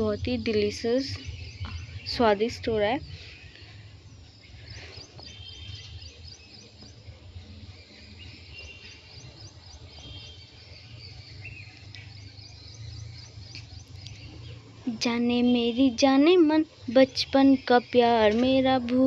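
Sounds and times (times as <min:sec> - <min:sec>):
faint high chirping: 0:00.0 - 0:19.0.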